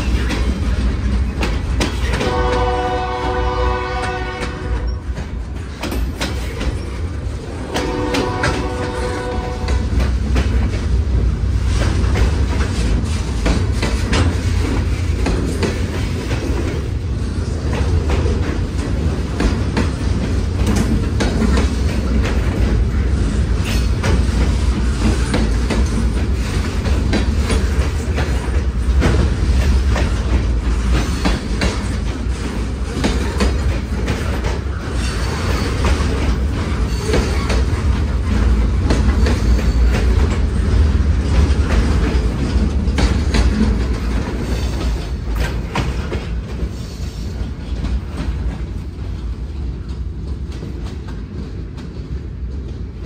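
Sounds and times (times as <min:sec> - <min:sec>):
freight train rumbling past: 0:00.0 - 0:53.0
wheels clattering over rail joints: 0:00.0 - 0:53.0.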